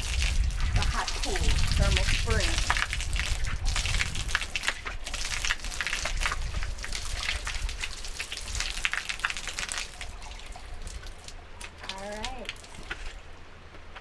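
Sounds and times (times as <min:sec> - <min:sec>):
shower water splashing on tiles: 0:00.0 - 0:13.2.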